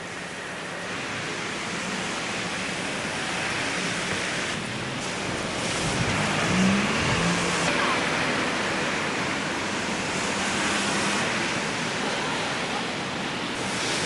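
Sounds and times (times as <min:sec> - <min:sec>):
faint low vehicle hum: 0:00.0 - 0:14.0
rain hissing on wet street: 0:00.0 - 0:14.0.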